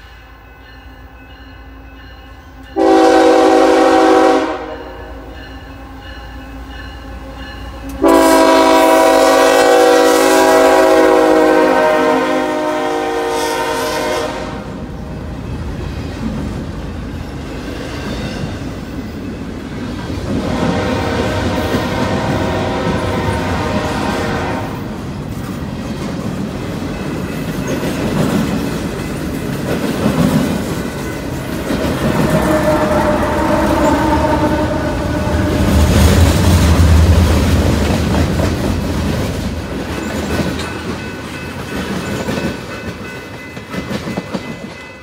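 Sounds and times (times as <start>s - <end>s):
diesel locomotive engine: 0.0s - 45.0s
freight train rolling past: 0.0s - 45.0s.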